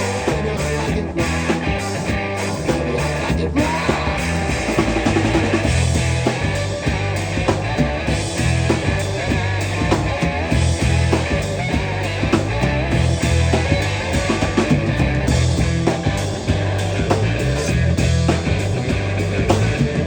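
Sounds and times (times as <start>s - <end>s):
bass guitar: 0.0s - 20.0s
drum kit beat: 0.0s - 20.0s
electric guitar: 0.0s - 20.0s.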